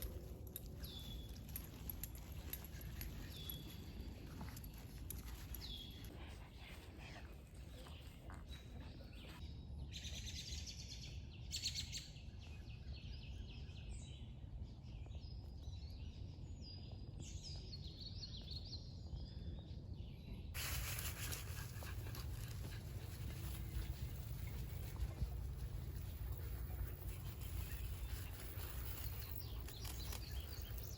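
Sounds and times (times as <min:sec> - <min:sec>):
birds chirping and singing: 0:00.0 - 0:14.3, 0:14.9 - 0:30.9.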